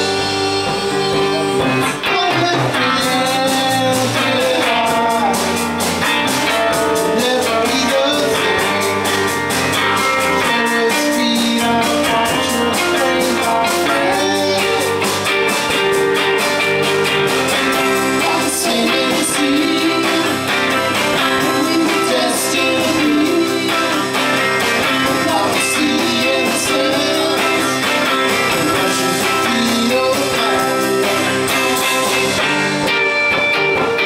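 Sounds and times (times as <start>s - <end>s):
drum and cymbal hits: 0.0s - 34.0s
electric guitars playing: 0.0s - 34.0s.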